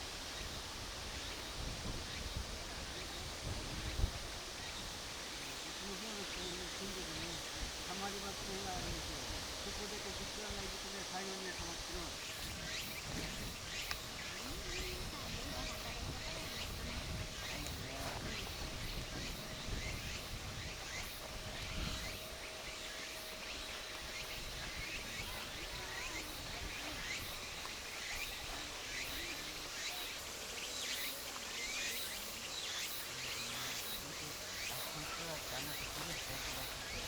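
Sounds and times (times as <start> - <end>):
faint distant voices: 0.0 - 37.0
small birds chirping: 0.3 - 37.0.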